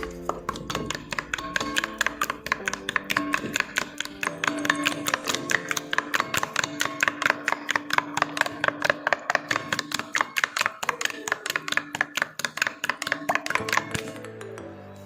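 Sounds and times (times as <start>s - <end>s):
ladle beating batter in bowl: 0.0s - 15.0s.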